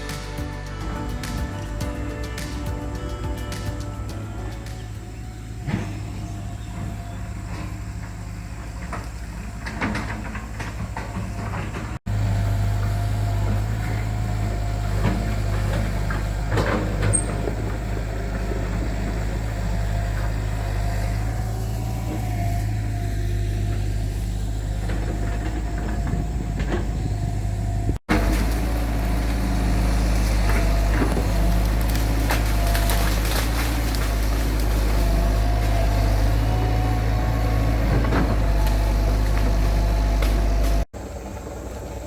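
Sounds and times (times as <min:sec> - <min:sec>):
heavy machinery engine running: 0:00.0 - 0:42.0.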